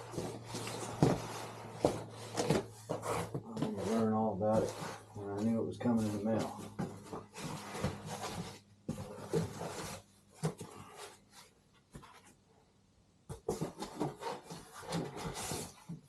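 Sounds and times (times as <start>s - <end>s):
packaging rustling and scraping: 0.0s - 12.4s, 13.3s - 16.0s.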